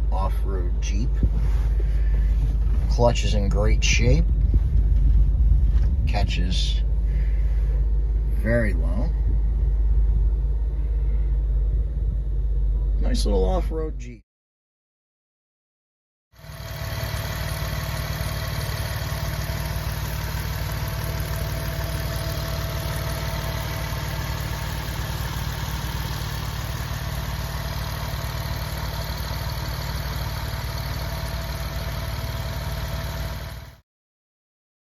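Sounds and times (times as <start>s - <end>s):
car engine idling: 0.0s - 14.0s, 16.4s - 33.8s.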